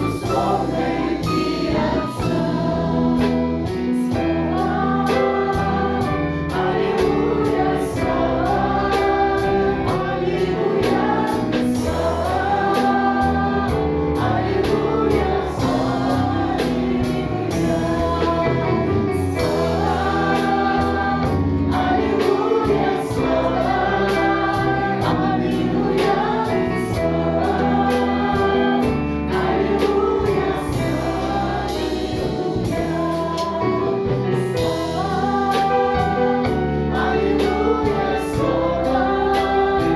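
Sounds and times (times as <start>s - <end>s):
choir singing praise song: 0.0s - 39.9s.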